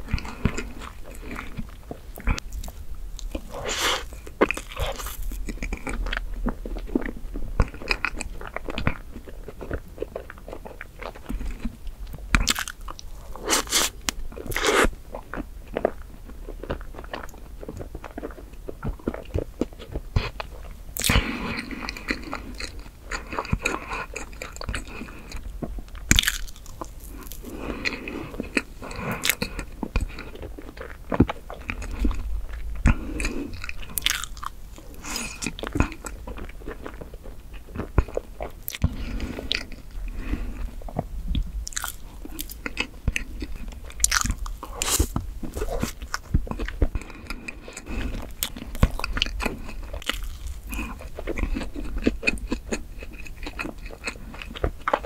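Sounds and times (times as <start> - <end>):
chewing and mouth sounds: 0.0 - 55.0.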